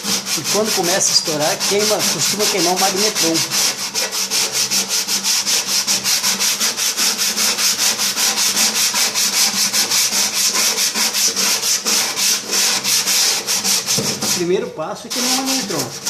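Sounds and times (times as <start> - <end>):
sandpaper rubbing on metal: 0.0 - 16.0.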